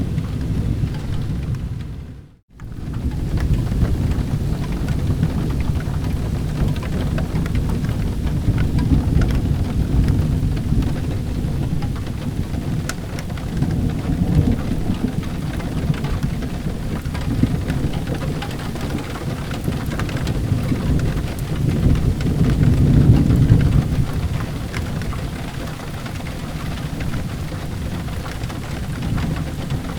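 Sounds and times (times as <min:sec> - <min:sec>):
rolling thunder rumble: 0:00.0 - 0:29.9
steady rain: 0:00.0 - 0:29.9.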